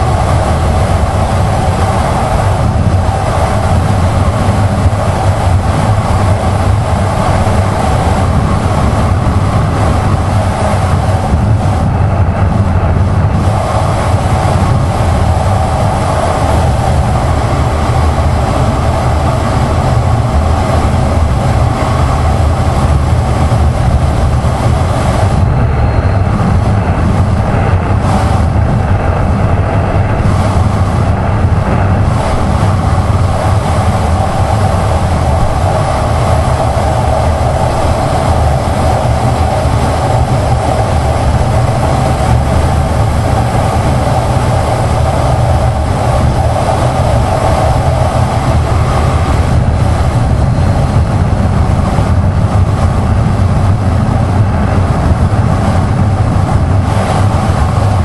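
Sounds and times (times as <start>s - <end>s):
road noise: 0.0s - 58.0s
wind rush: 0.0s - 58.0s.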